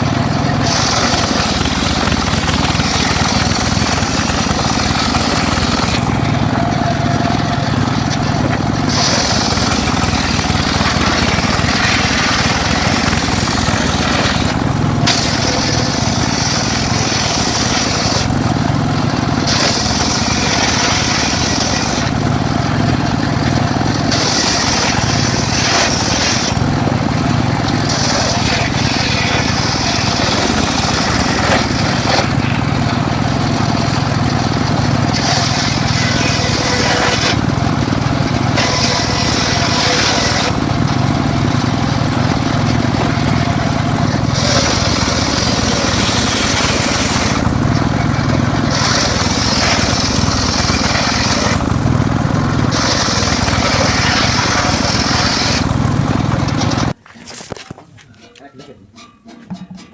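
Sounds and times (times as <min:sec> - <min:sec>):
circular saw motor drone: 0:00.0 - 0:57.0
saw blade cutting wood: 0:00.0 - 0:57.7.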